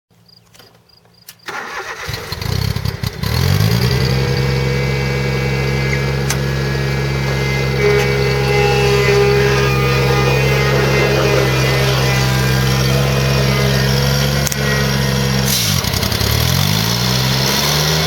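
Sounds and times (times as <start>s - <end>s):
mower engine starting and running: 1.4s - 18.0s.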